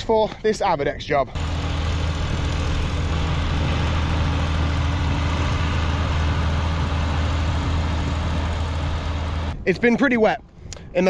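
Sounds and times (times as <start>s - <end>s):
diesel tractor engine hum: 0.0s - 11.0s
constant rushing hiss: 1.4s - 10.2s.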